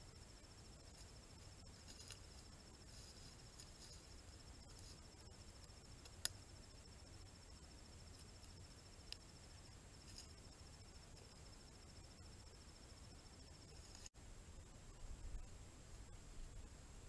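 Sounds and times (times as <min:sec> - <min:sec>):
insect trilling: 0:00.0 - 0:14.1.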